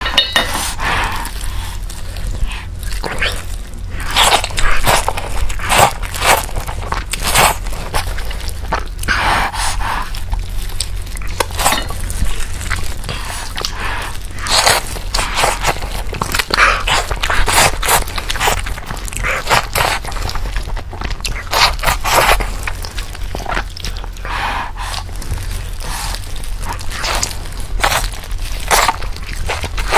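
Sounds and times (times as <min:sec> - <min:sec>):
chewing and crunchy mouth sounds: 0:00.0 - 0:29.9
steady low hum: 0:00.0 - 0:29.9.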